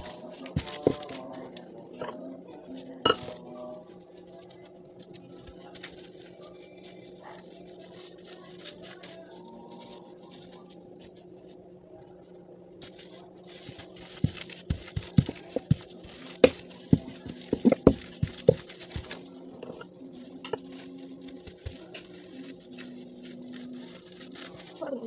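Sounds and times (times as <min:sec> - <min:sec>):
rolling pin working dough: 0:00.0 - 0:25.0.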